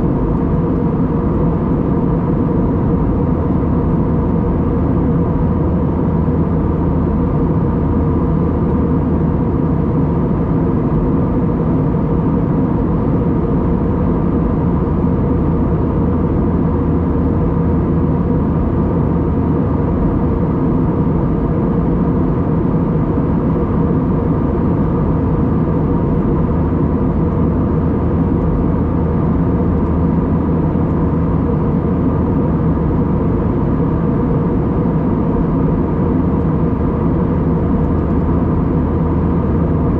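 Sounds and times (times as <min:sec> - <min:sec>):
faint steady hum: 0:00.0 - 0:39.9
jet engines droning in cabin: 0:00.0 - 0:39.9.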